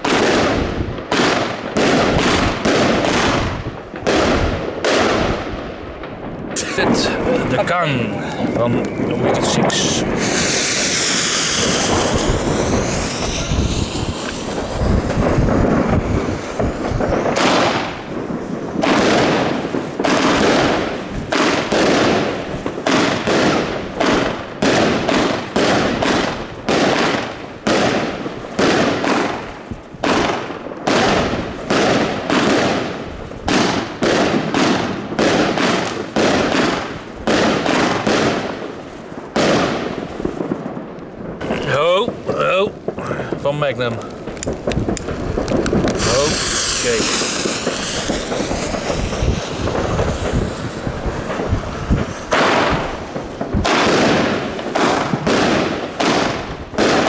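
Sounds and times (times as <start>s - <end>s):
fireworks shots bursting: 0.0s - 57.0s
firework fuse hissing: 6.5s - 40.6s, 41.4s - 57.0s.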